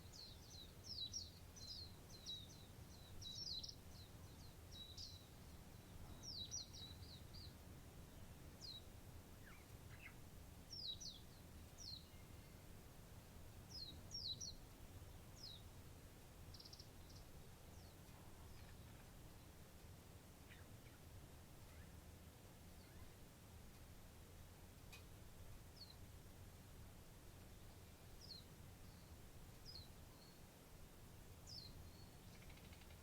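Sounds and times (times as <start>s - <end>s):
faint low background rumble: 0.0s - 33.0s
songbirds chirping: 0.0s - 33.0s.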